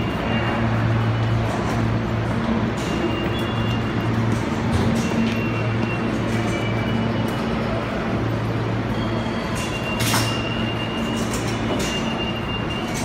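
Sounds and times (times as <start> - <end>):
station rumble and hiss: 0.0 - 13.0.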